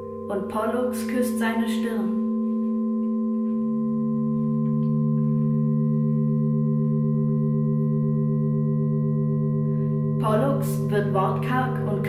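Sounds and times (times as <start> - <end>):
ambient drone music bell tones: 0.0 - 12.0.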